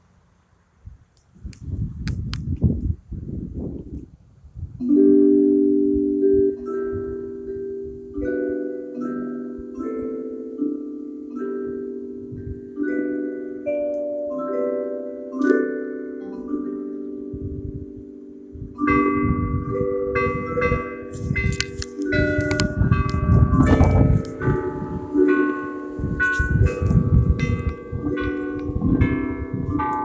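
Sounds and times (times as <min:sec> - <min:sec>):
church bells ringing: 0:05.3 - 0:30.0.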